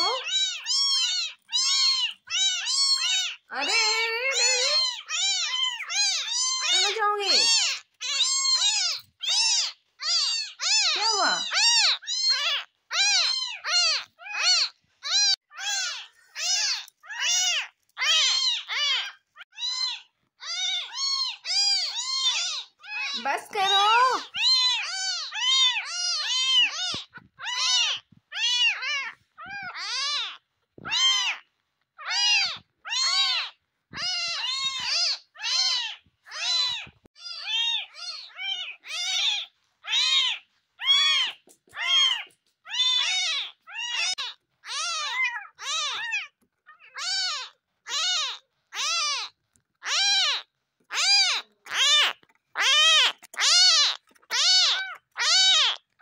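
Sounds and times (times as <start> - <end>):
kittens mewing: 0.0 - 56.0.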